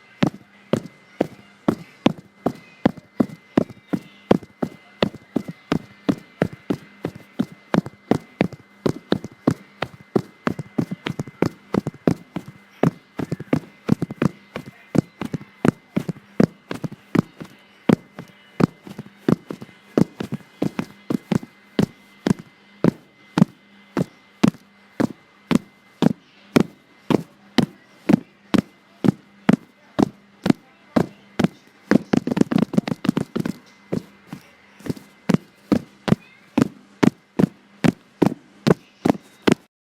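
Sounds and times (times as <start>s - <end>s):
faint steady hum: 0.0s - 39.7s
fast heartbeat thumps: 0.2s - 39.7s.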